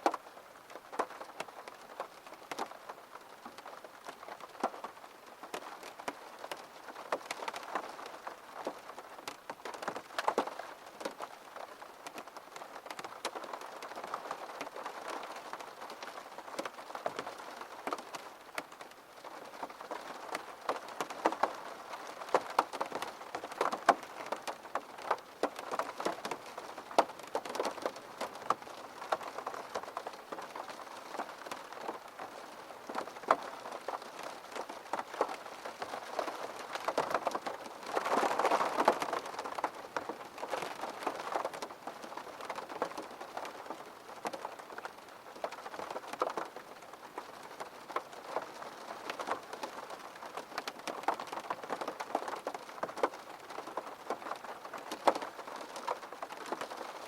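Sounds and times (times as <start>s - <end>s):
rain drops tapping: 0.0s - 57.0s.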